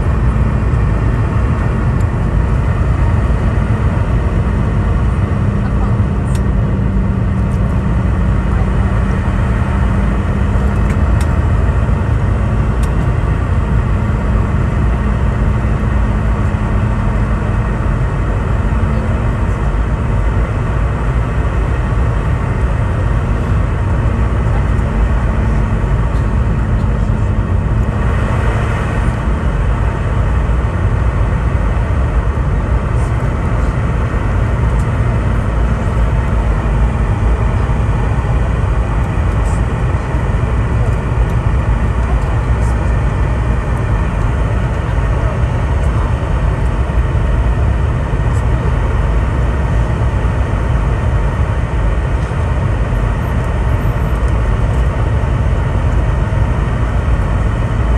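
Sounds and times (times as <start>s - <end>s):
aircraft cabin drone: 0.0s - 57.9s
steady hum: 0.0s - 57.9s.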